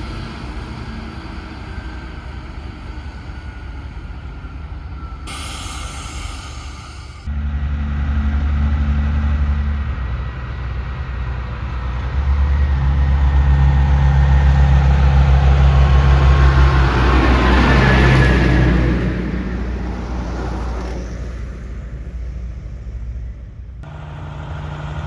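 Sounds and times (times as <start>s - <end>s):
road noise of passing vehicle: 0.0s - 3.5s, 7.2s - 25.0s
truck diesel engine droning: 0.0s - 25.0s.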